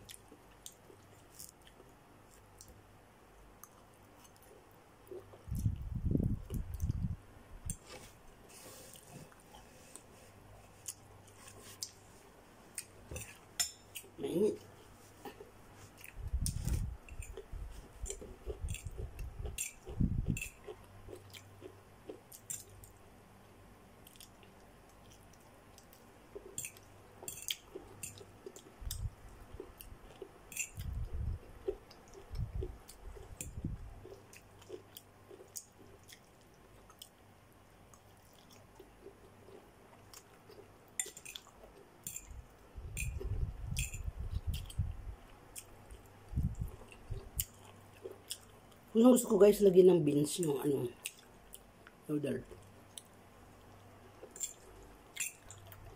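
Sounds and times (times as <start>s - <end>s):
person chewing: 3.5s - 8.1s, 8.7s - 14.2s, 14.9s - 23.0s, 24.0s - 37.2s, 37.8s - 48.9s, 51.0s - 55.9s.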